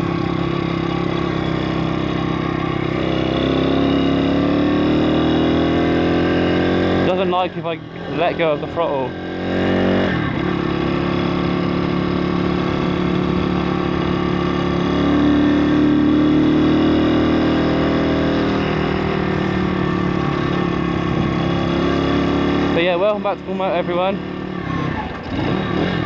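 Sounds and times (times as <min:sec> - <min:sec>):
motorbike engine running: 0:00.0 - 0:26.0.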